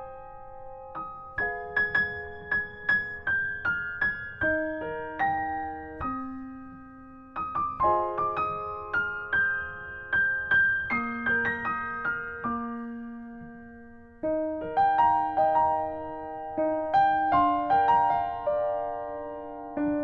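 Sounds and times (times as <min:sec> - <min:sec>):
solo piano music: 0:00.0 - 0:20.0.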